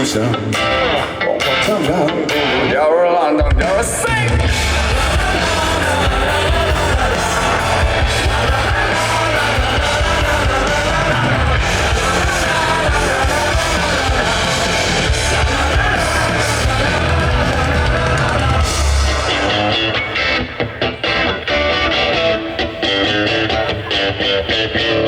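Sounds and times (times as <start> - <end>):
bass guitar: 0.0 - 25.0
drums: 0.0 - 25.0
electric guitars: 0.0 - 25.0
people singing or yelling: 0.0 - 25.0.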